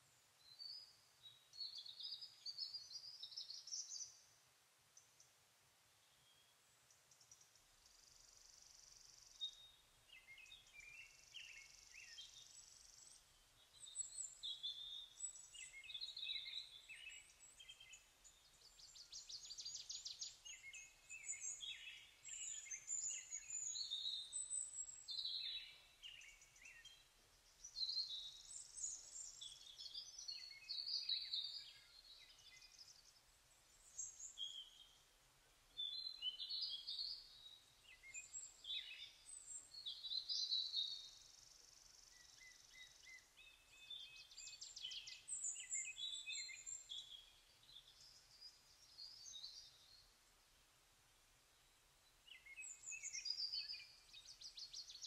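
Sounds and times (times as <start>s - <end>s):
birds chirping and trilling: 7.2s - 35.0s, 35.8s - 50.1s, 51.6s - 55.0s.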